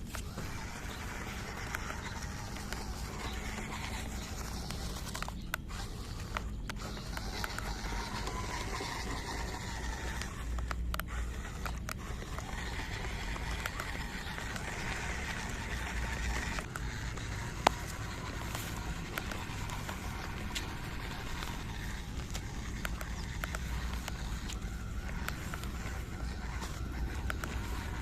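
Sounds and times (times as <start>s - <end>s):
clicks: 0.0s - 28.0s
toy car motor whining: 0.0s - 28.0s
wheels scraping over dirt: 0.0s - 28.0s.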